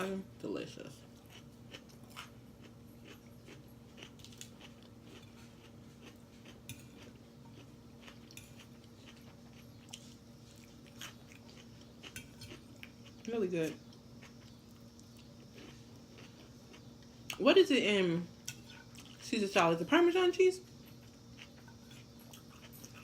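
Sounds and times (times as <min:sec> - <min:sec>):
faint steady hum: 0:00.0 - 0:23.0
person chewing: 0:01.1 - 0:17.4, 0:18.5 - 0:19.2, 0:20.7 - 0:23.0.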